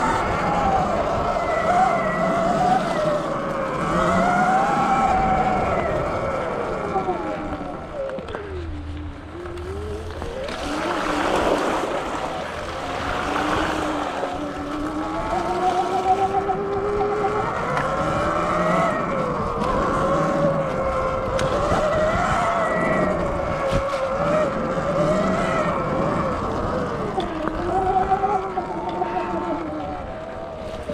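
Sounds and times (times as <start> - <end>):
electric motor whining: 0.0 - 30.9.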